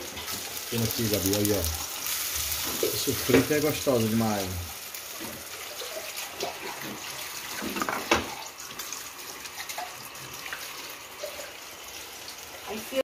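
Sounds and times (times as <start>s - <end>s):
plantain frying in hot oil: 0.0s - 13.0s.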